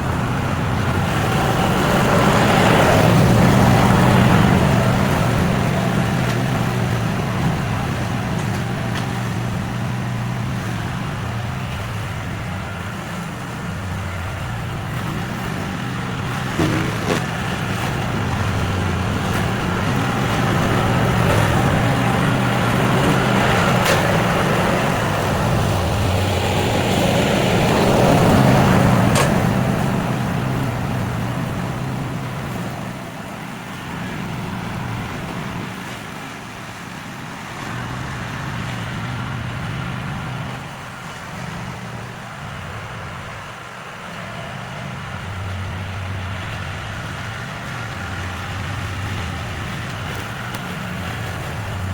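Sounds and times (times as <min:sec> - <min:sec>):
engine running: 0:00.0 - 0:51.9.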